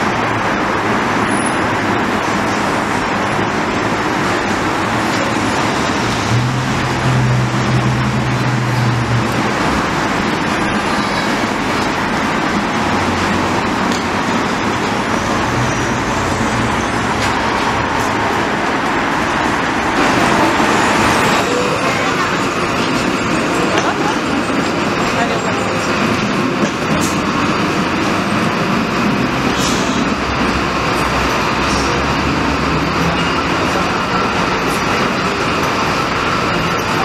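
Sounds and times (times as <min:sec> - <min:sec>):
street traffic: 0:00.0 - 0:37.0
deep engine drone: 0:02.3 - 0:37.0.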